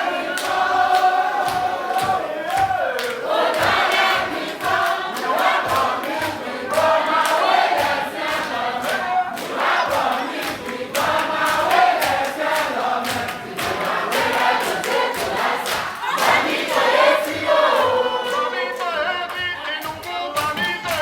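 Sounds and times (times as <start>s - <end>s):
crowd singing in chorus: 0.0s - 19.9s.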